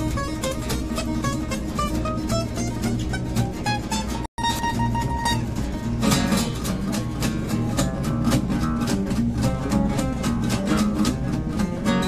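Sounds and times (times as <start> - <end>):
acoustic guitars fingerstyle: 0.0 - 12.0.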